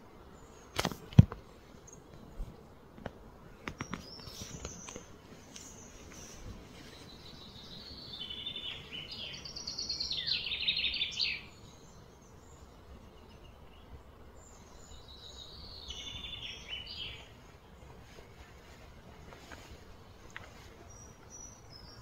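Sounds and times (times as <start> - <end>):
songbird singing: 3.4 - 22.0.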